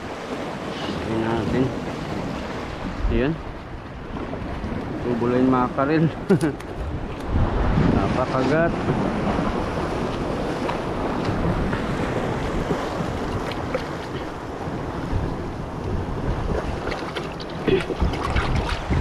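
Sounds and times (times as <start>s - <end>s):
sea waves on shore: 0.0s - 19.0s
wind buffeting microphone: 0.0s - 19.0s.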